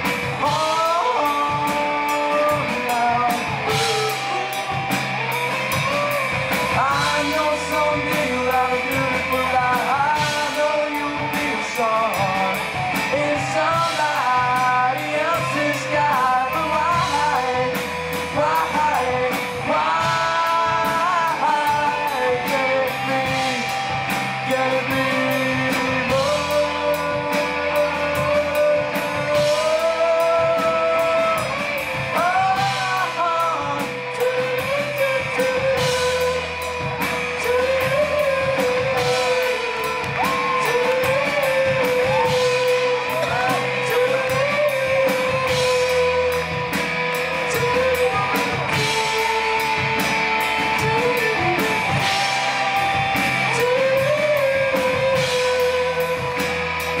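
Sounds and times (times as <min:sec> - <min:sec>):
person singing: 0:00.0 - 0:57.0
rock band playing: 0:00.0 - 0:57.0.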